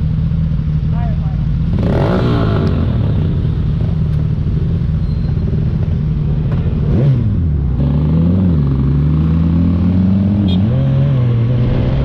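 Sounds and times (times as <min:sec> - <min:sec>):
motorcycle engine revving: 0:01.6 - 0:12.0.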